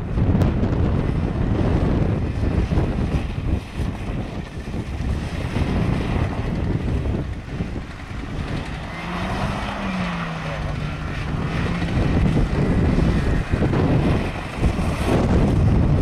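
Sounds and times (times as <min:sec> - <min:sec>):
car engine under load: 0:00.0 - 0:16.0
wind buffeting microphone: 0:00.0 - 0:16.0.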